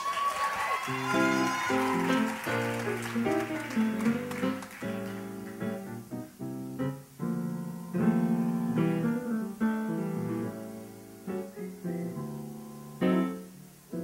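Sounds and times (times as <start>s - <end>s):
grand piano chords ringing: 0.9s - 14.0s.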